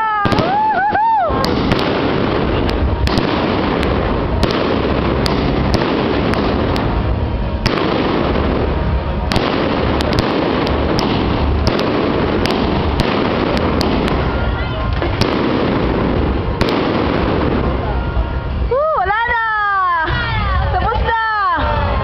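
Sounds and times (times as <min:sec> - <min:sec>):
fireworks rumble and crackle: 0:00.0 - 0:22.0
sharp firework pops: 0:00.2 - 0:17.9.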